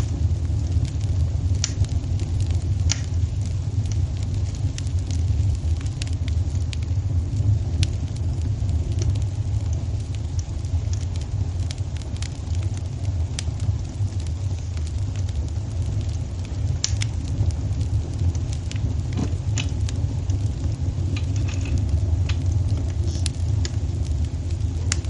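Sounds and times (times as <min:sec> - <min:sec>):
wood fire crackling in fireplace: 0:00.0 - 0:25.0.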